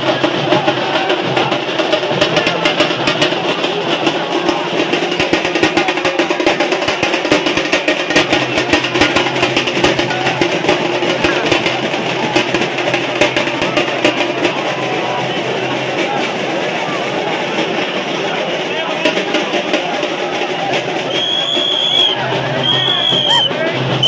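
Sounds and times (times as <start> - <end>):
crowd shouting: 0.0 - 24.0
rapid loud drumming: 0.0 - 24.0.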